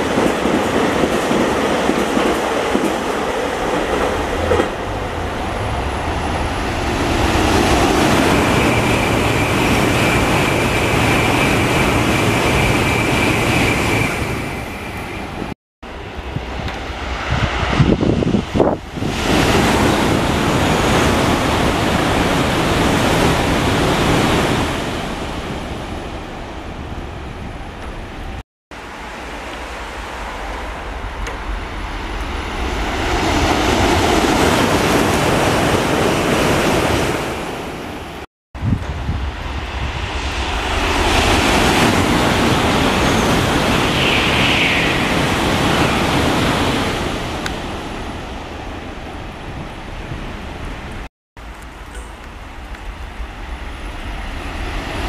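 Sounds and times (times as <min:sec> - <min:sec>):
bullet train passing at speed: 0:00.0 - 0:55.0.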